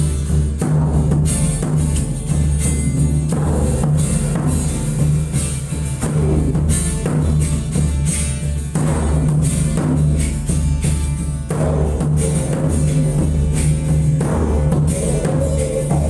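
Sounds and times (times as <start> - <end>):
didgeridoo drone: 0.0 - 16.0
drum beat: 0.0 - 16.0.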